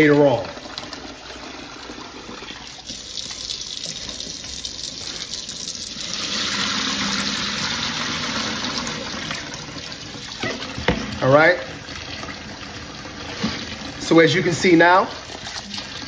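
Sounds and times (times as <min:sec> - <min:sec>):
tap running into tub: 0:00.0 - 0:16.0
water splashing into sink: 0:00.0 - 0:16.0.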